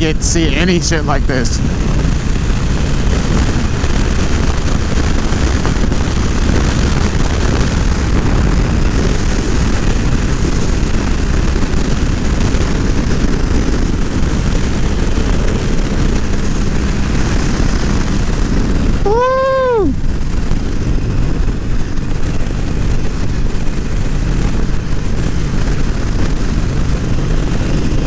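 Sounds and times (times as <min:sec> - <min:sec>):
motorcycle engine drone: 0:00.0 - 0:28.0
road noise: 0:00.0 - 0:28.0
wind rushing over microphone: 0:00.0 - 0:28.0.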